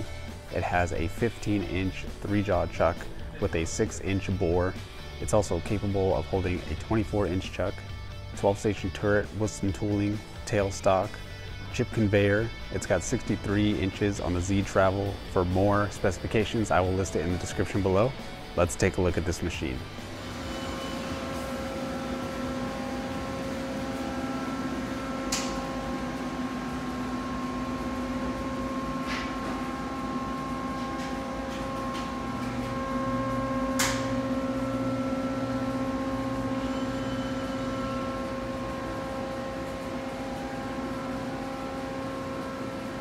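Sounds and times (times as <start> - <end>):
machine humming: 0.0 - 43.0.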